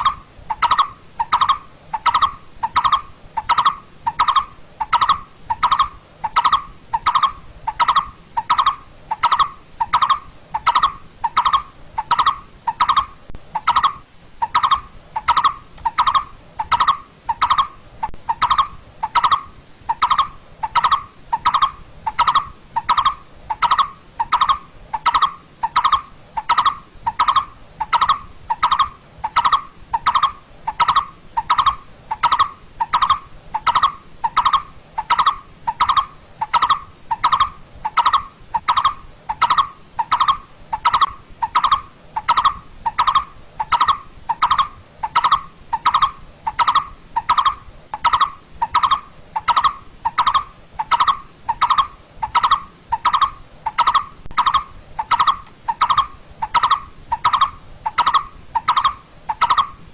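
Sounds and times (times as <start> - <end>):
barbet calling low tuk notes: 0.0 - 59.8.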